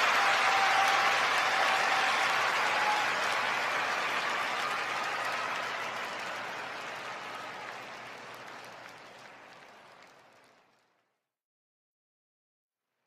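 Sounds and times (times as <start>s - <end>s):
arena crowd applause: 0.0s - 11.1s.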